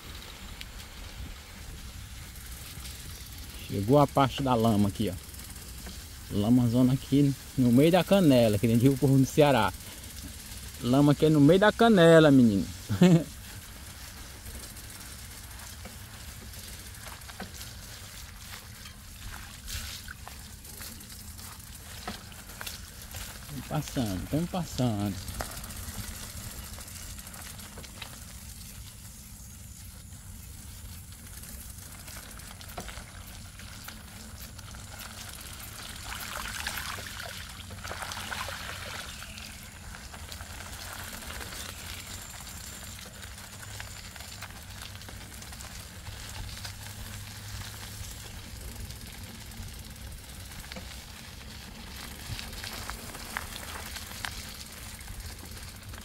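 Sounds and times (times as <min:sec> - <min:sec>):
bicycle tyres through wet mud: 0:00.0 - 0:56.0.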